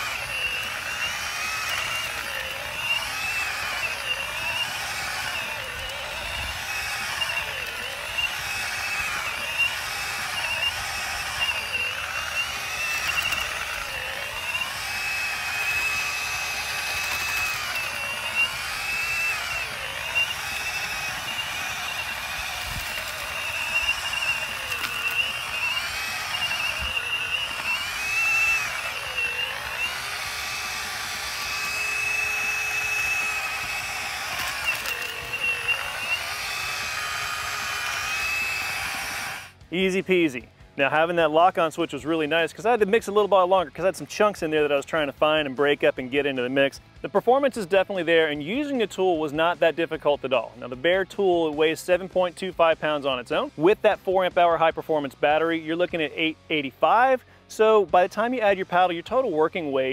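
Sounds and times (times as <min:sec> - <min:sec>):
mixer motor whine: 0:00.0 - 0:51.6.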